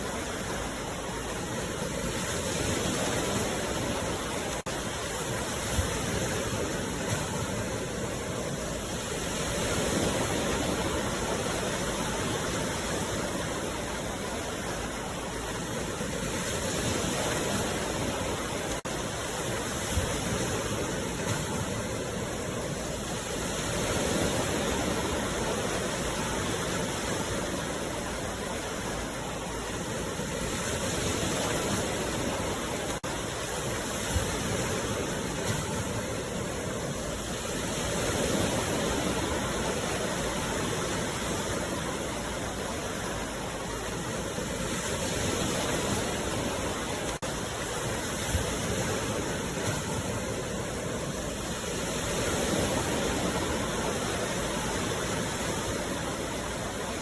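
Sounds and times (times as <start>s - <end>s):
surf washing onto shore: 0.0s - 57.0s.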